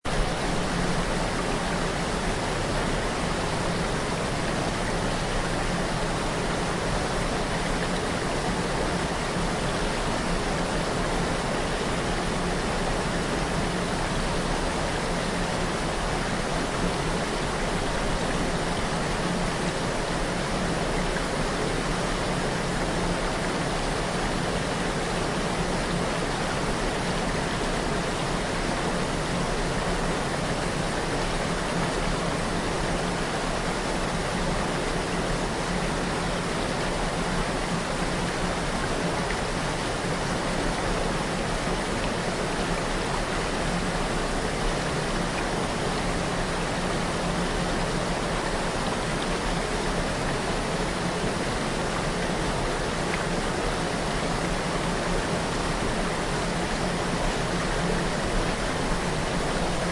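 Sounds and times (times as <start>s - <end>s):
waterfall rushing: 0.1s - 59.9s.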